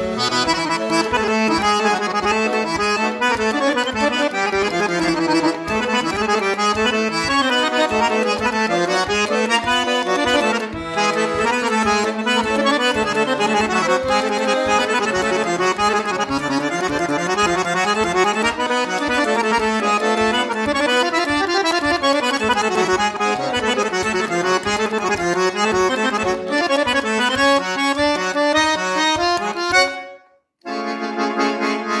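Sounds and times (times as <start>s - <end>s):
piano accordion melody: 0.0s - 32.0s.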